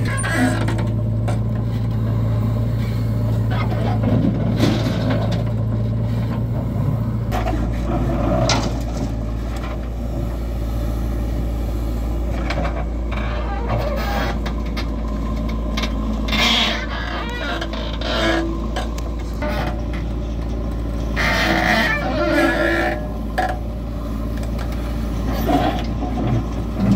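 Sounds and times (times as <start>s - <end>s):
diesel engines humming: 0.0s - 26.9s.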